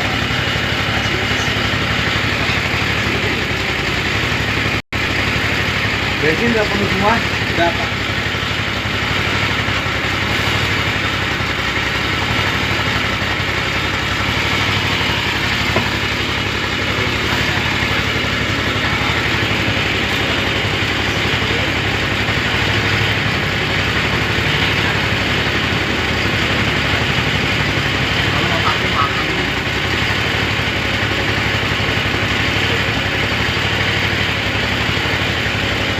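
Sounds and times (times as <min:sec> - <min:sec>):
petrol engine running: 0:00.0 - 0:35.9.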